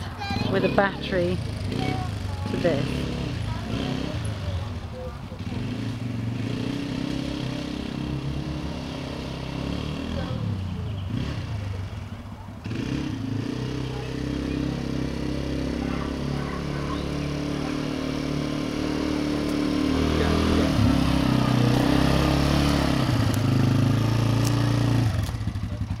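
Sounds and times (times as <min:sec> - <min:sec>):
small atv engine running: 0:00.0 - 0:26.0.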